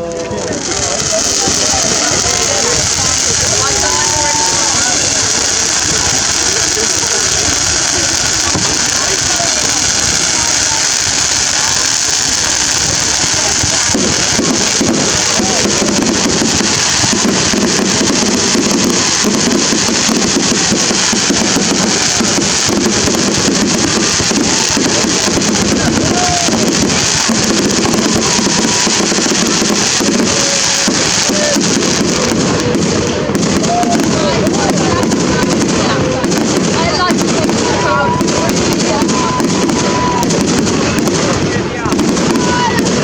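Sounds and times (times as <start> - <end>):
crowd of voices: 0.0 - 43.0.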